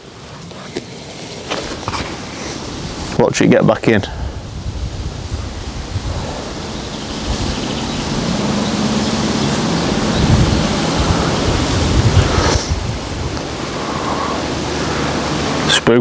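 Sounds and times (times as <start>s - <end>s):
wind rushing across microphone: 0.0s - 16.0s.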